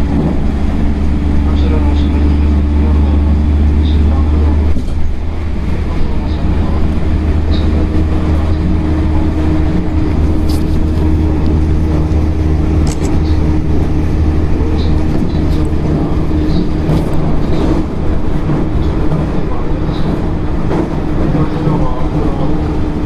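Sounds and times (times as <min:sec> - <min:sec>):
train running gear rumble: 0:00.0 - 0:23.0.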